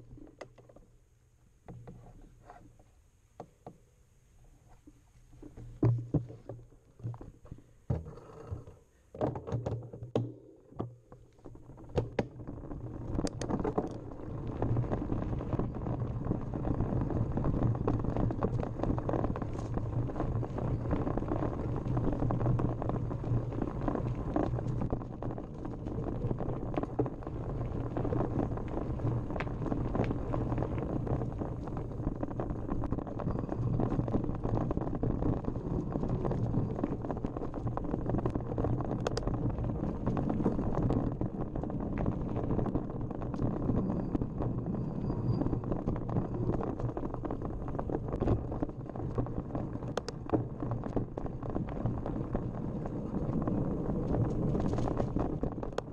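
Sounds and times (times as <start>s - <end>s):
bike rattling: 10.2s - 55.9s.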